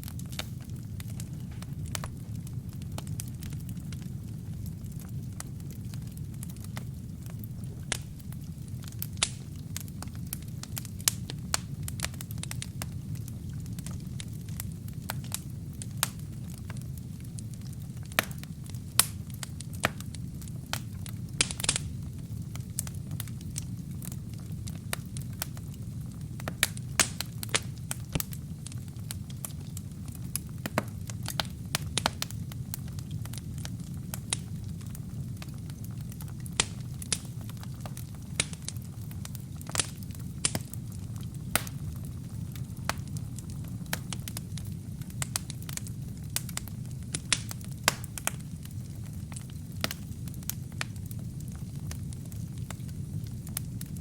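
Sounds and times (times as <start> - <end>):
fire crackling and popping: 0.0 - 54.0
fire flames rumbling: 0.0 - 54.0
fire hiss: 0.0 - 54.0.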